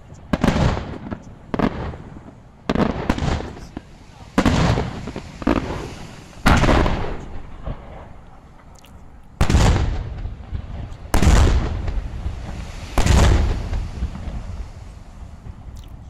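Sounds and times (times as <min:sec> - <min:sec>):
firework shells booming: 0:00.3 - 0:08.2, 0:09.4 - 0:15.7.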